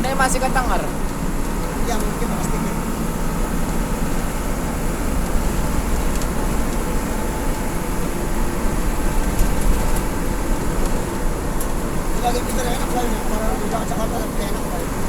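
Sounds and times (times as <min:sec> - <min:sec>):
bus engine noise: 0:00.0 - 0:15.0
road noise: 0:00.0 - 0:15.0.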